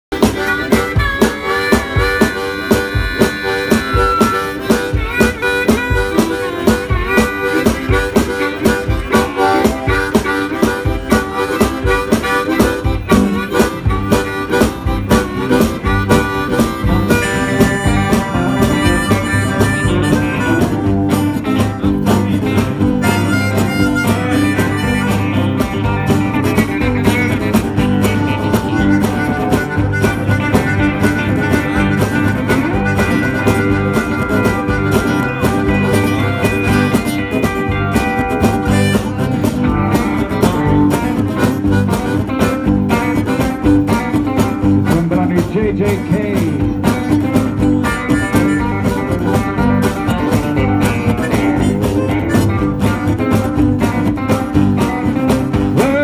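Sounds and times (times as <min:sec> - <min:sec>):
live blues music: 0:00.0 - 0:56.0
strummed guitars: 0:00.0 - 0:56.0
harmonica: 0:00.1 - 0:56.0.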